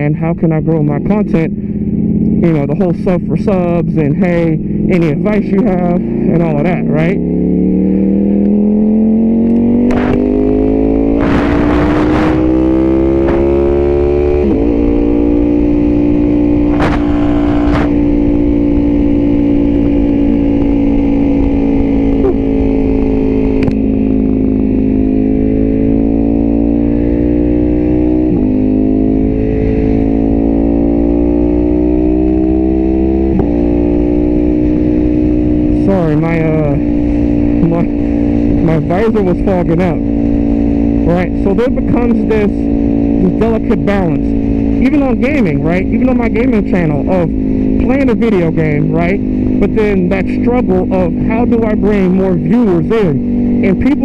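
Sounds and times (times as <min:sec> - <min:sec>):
low wind rush: 0:00.0 - 0:54.0
motorcycle engine accelerating: 0:00.0 - 0:54.0.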